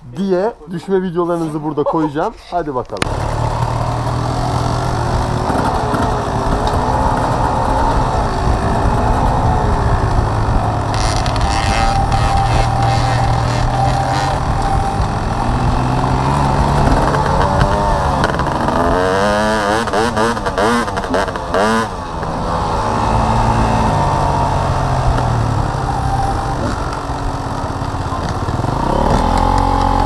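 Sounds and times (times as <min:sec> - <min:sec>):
dirt bike engine revving: 0:03.0 - 0:30.0.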